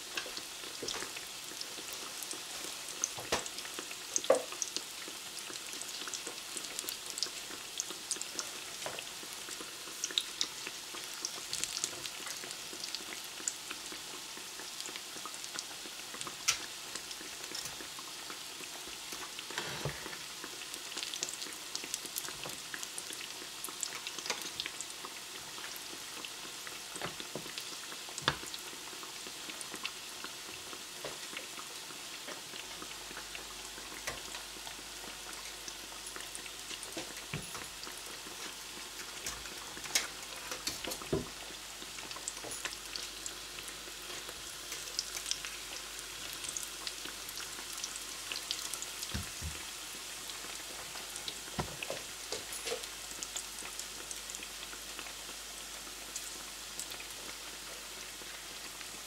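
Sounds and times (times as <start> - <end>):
food frying in hot oil: 0.0 - 59.0.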